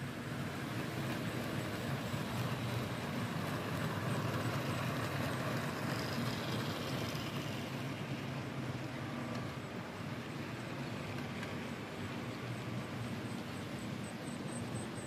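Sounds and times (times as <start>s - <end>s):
faint high whine: 0.0s - 15.0s
wheels rumbling on rails: 0.0s - 15.0s.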